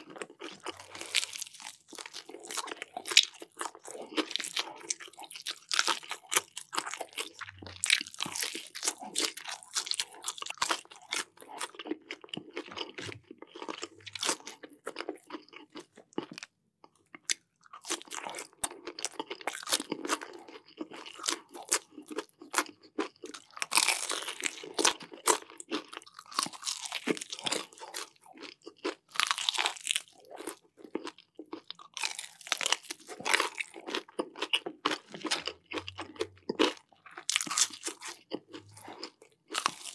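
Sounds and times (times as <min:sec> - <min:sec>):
crunchy fried chicken chewing: 0:00.0 - 0:39.9.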